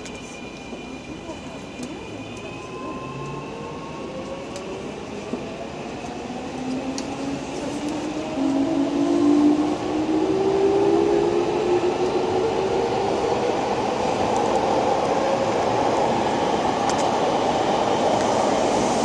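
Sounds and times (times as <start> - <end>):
train motors and wheels: 0.0 - 19.0.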